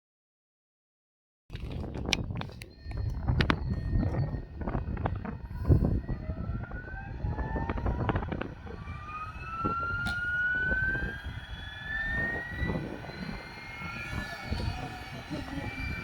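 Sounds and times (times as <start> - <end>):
electric motor whine: 1.5 - 16.0
wind gusting on microphone: 1.5 - 16.0.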